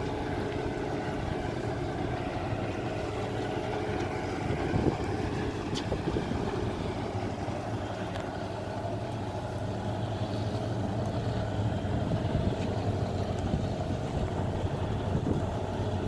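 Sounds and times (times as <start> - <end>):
boat engine drone: 0.0 - 16.0
wind and water rushing: 0.0 - 16.0.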